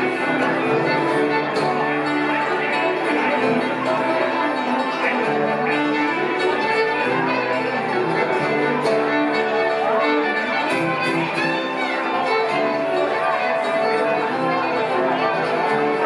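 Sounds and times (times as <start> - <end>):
acoustic guitar: 0.0 - 16.0
banjo: 0.0 - 16.0
dobro: 0.0 - 16.0
fiddle: 0.0 - 16.0.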